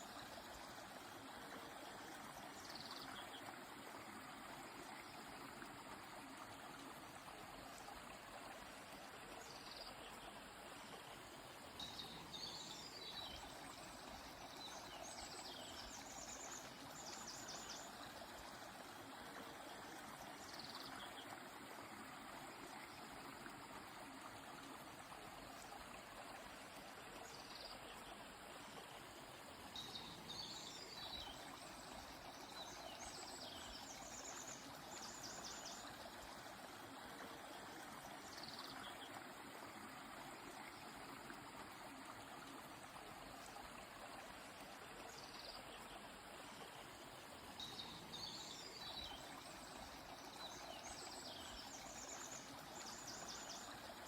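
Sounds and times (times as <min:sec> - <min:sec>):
faint flowing stream: 0:00.0 - 0:54.0.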